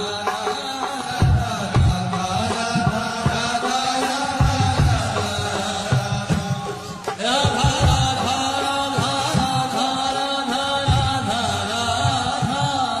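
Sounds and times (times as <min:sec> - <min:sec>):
chanted vocals: 0:00.0 - 0:13.0
drums: 0:00.0 - 0:13.0.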